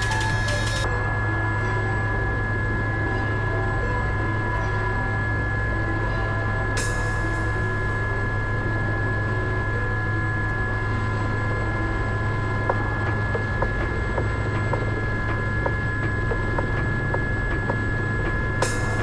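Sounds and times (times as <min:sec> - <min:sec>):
helicopter rotor drone: 0:00.0 - 0:19.0
high turbine whine: 0:00.0 - 0:19.0.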